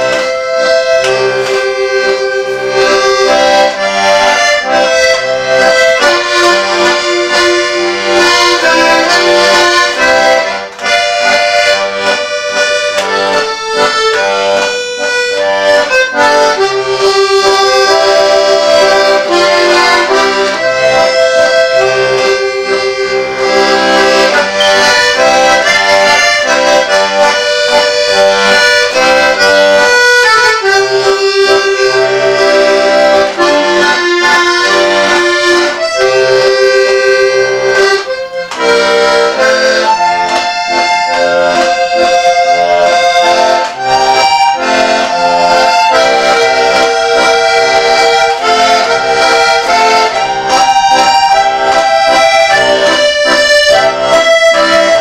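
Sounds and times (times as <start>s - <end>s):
button accordion playing a tune: 0.0s - 55.0s.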